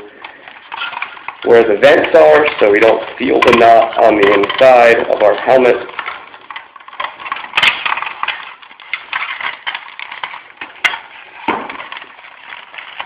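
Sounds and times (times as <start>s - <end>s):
scratchy rustling of knot: 0.0s - 13.0s.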